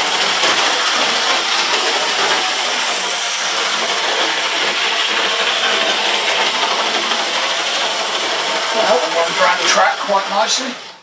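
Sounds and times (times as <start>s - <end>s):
model train motor whirring: 0.0s - 10.7s.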